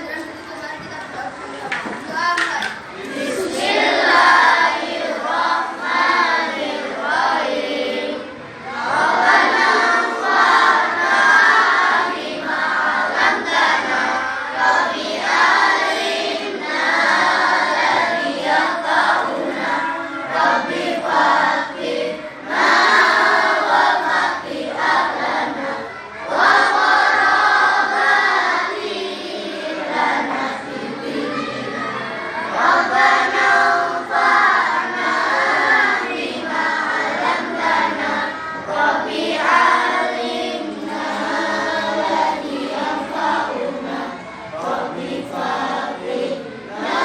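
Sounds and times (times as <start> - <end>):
children chanting in unison: 0.0 - 47.0.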